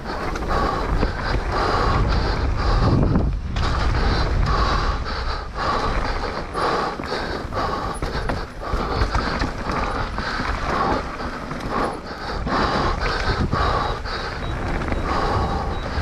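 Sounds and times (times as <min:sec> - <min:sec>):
low riding rumble: 0:00.0 - 0:16.0
person breathing hard: 0:00.0 - 0:16.0.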